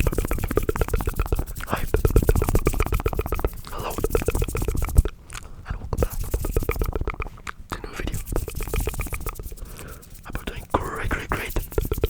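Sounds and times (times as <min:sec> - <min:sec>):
wet mouth clicks and smacks: 0:00.0 - 0:12.0.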